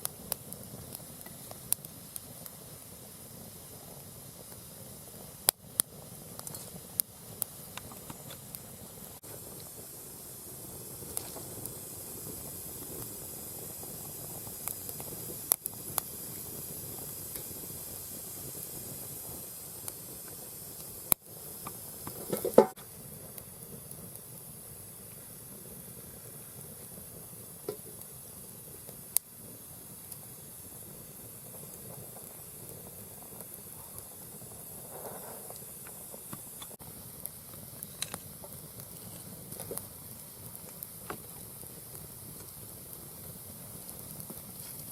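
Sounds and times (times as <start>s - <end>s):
fire crackling and popping: 0.0s - 44.9s
loud crack of burning log: 0.0s - 44.9s.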